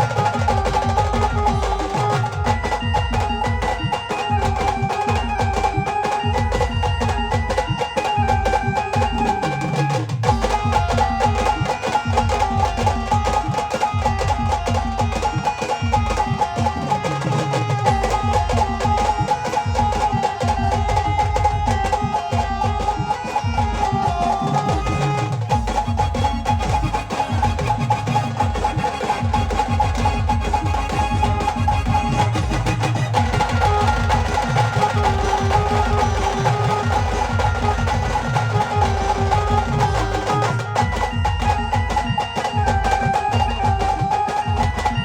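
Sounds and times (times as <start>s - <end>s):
heavy drum beats: 0.0s - 45.0s.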